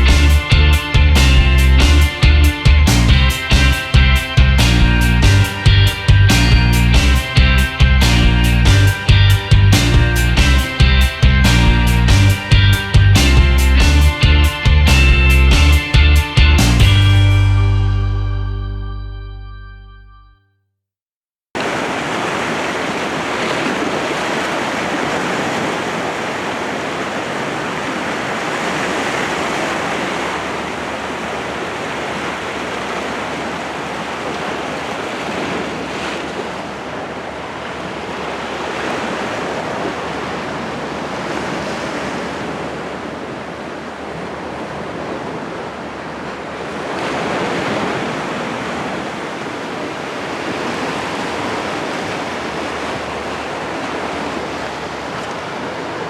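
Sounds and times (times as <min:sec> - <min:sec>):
sea surf washing ashore: 0:00.0 - 0:17.9, 0:21.6 - 0:56.0.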